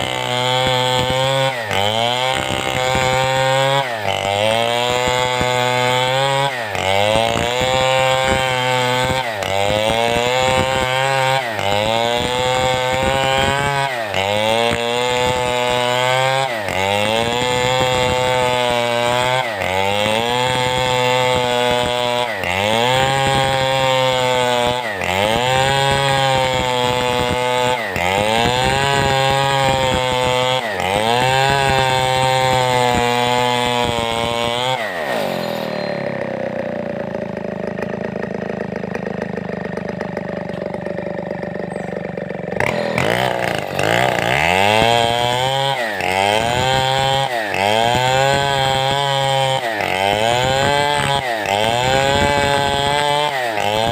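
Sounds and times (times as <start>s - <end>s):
chainsaw cutting timber: 0.0s - 53.9s.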